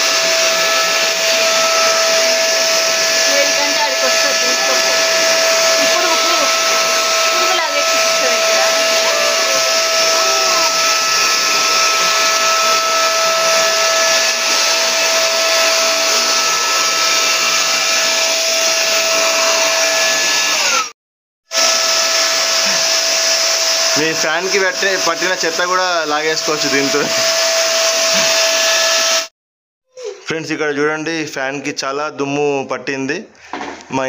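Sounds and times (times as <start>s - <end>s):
vacuum cleaner running: 0.0s - 29.3s.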